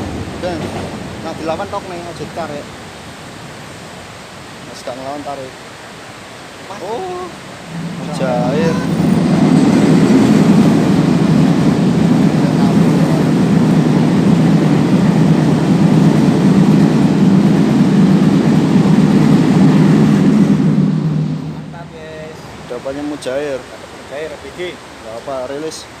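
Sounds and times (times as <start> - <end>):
train rumbling over a bridge: 0.0 - 26.0.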